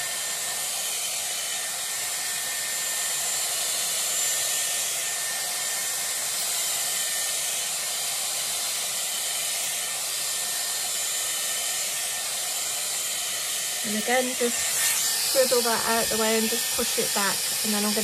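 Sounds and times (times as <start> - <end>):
hair styler blowing air: 0.0 - 18.0.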